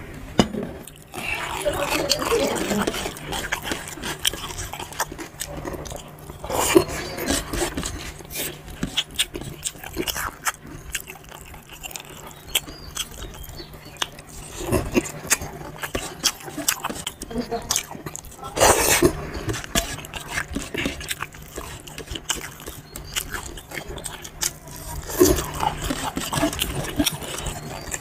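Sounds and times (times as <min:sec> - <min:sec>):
fingers mixing rice on steel plate: 0:00.4 - 0:28.0
wet chewing and lip smacks: 0:00.8 - 0:28.0.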